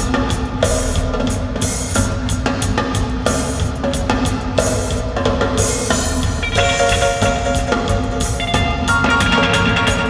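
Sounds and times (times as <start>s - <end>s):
live band playing amplified music: 0.0s - 10.0s.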